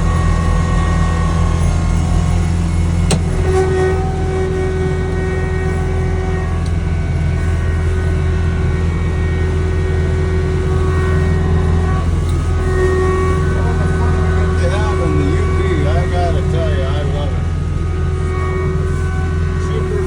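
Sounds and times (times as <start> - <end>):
snowblower engine running: 0.0 - 20.0.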